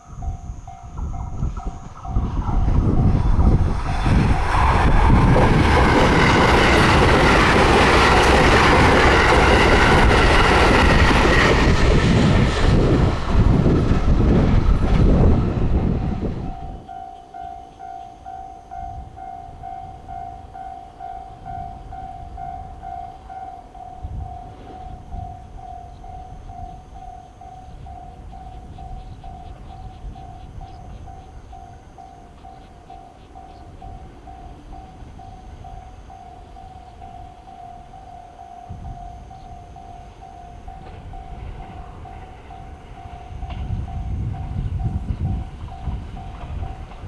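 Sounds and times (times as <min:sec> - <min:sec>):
train rushing past: 0:00.0 - 0:17.0, 0:18.9 - 0:47.0
crossing warning bell ringing: 0:00.0 - 0:47.0.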